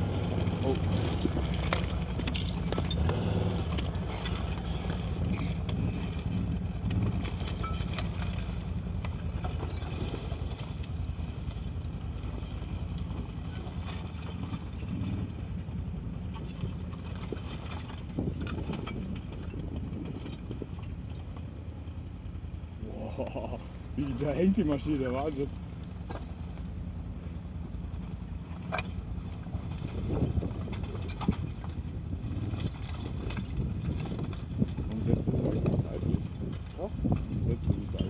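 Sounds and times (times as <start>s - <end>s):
quad bike engine running: 0.0s - 38.0s
knocks and rattles: 0.4s - 15.4s, 16.1s - 21.6s, 27.8s - 38.0s.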